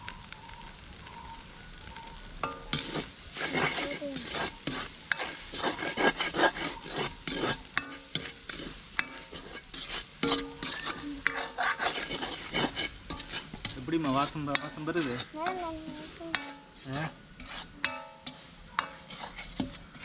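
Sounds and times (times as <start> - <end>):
rice sizzling: 0.0 - 20.0
ladle scraping wok: 2.4 - 20.0.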